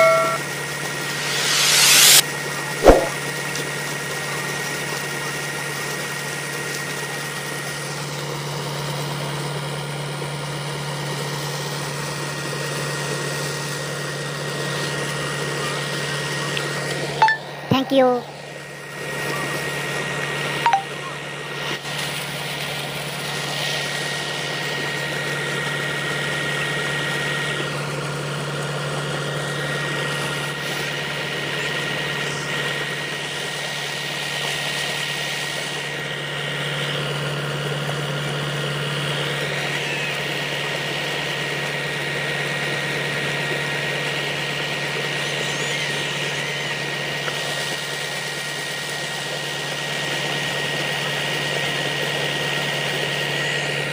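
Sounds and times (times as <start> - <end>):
water gushing from pipe: 2.2 - 17.1, 21.5 - 53.9.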